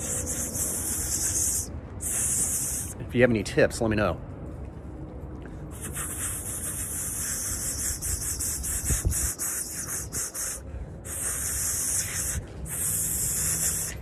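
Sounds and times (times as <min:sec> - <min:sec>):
breathy hiss of blowing air: 0:00.0 - 0:03.0, 0:05.7 - 0:14.0.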